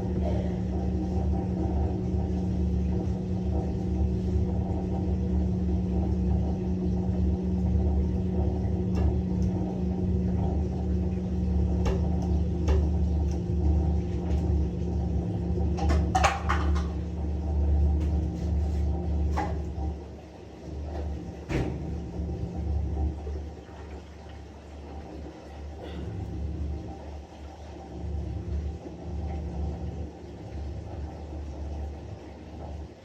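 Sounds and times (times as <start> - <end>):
washing machine pulsing hum: 0.0 - 33.0.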